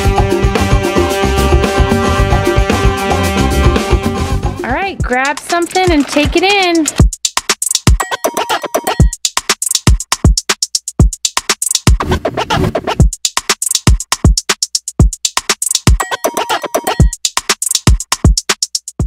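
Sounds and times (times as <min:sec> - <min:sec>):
electronic beat music: 0:00.0 - 0:19.0.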